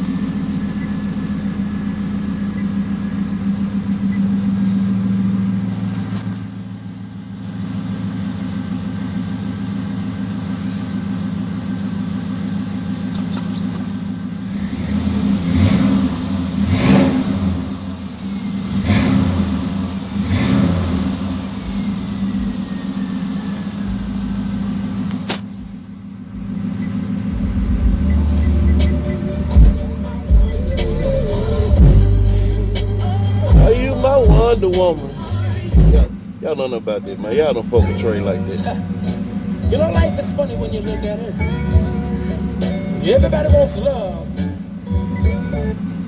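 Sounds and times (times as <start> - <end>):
car engine idling: 0.0 - 46.0
engine revving blips: 0.0 - 46.0.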